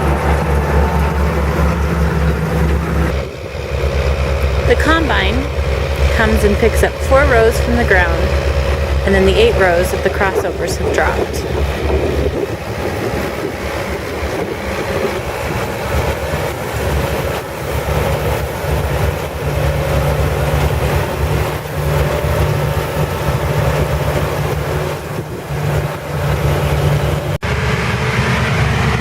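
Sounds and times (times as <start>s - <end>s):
low engine drone: 0.0s - 29.0s
machinery noise: 0.0s - 29.0s.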